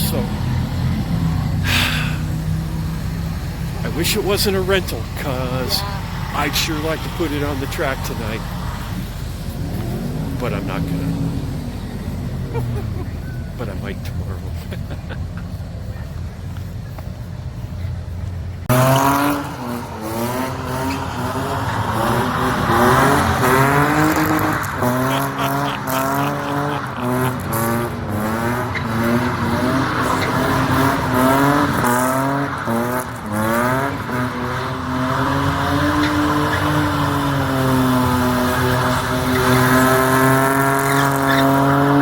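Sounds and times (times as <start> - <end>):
car engine revving: 0.0 - 42.0
tire squeal: 0.0 - 42.0.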